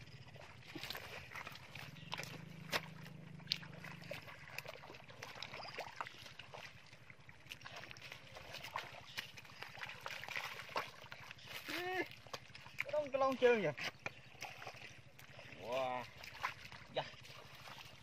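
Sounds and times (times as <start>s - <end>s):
bare feet squelching in wet mud: 0.0s - 18.0s
small clicks and splats: 0.4s - 18.0s.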